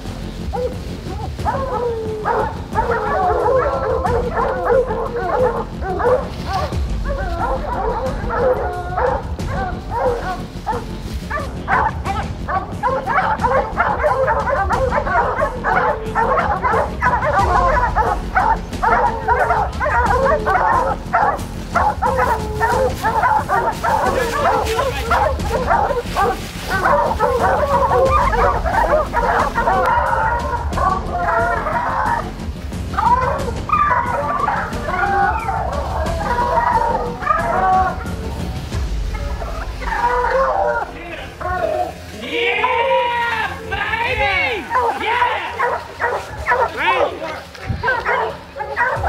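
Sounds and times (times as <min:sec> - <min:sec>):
hounds barking and bawling: 0:00.0 - 0:49.0.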